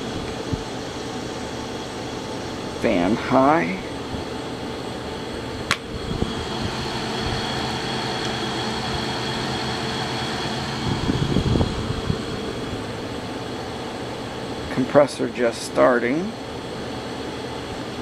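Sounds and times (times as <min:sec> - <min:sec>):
air conditioner fan humming: 0:00.0 - 0:18.0.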